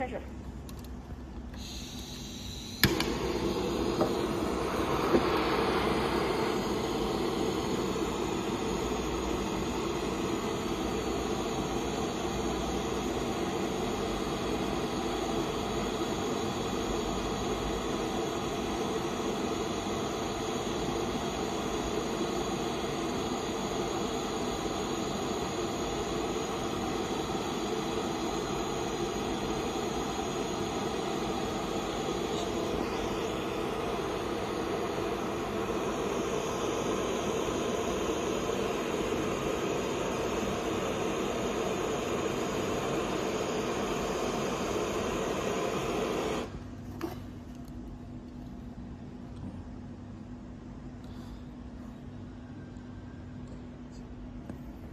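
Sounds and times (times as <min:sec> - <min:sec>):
gas torch flame hissing: 0:00.8 - 0:47.7.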